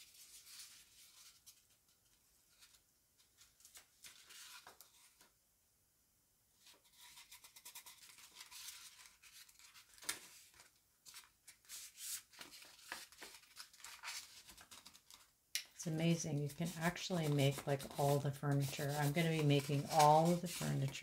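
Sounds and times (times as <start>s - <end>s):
paper rustling and crinkling: 0.0s - 5.3s, 6.6s - 15.3s, 16.0s - 21.0s.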